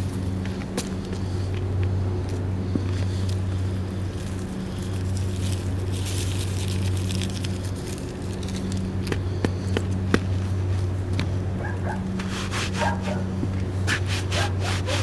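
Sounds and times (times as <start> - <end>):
crackers crunching under boots: 0.0 - 15.0.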